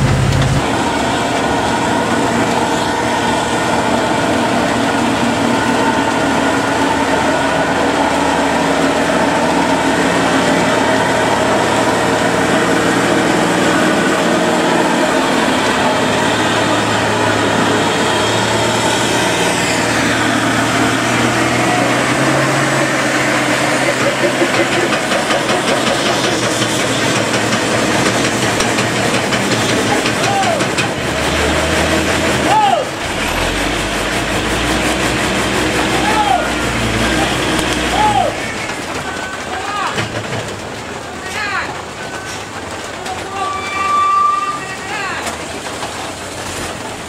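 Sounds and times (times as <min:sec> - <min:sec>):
truck diesel engine running: 0:00.0 - 0:43.3.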